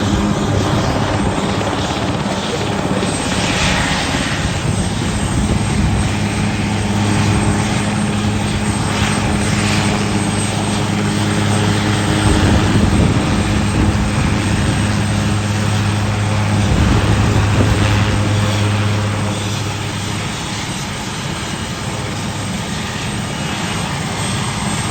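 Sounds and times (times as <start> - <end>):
helicopter rotor hum: 0.0 - 24.9
turbine engine whine: 0.0 - 24.9.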